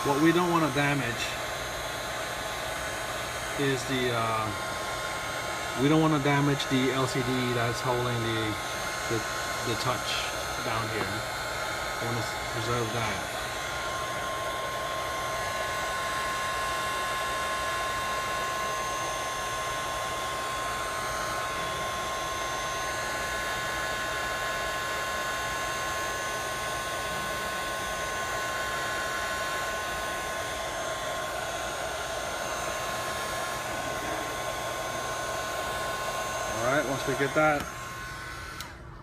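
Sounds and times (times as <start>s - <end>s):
heat gun fan rushing: 0.0s - 39.0s.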